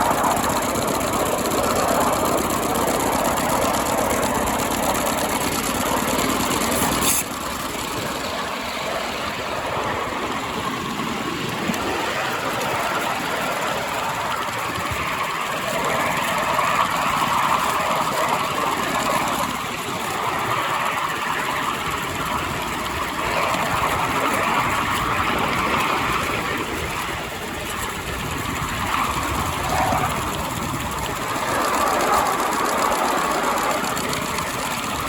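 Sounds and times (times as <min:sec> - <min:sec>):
miniature locomotive running: 0:00.0 - 0:35.0.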